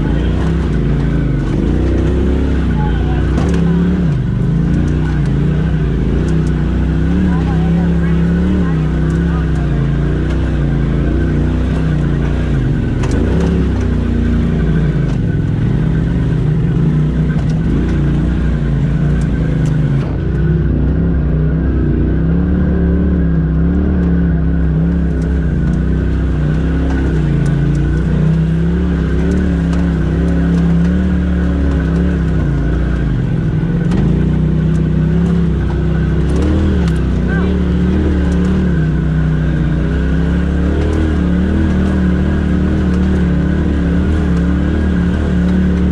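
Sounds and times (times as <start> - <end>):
off-road vehicle engine at low revs: 0.0 - 45.9.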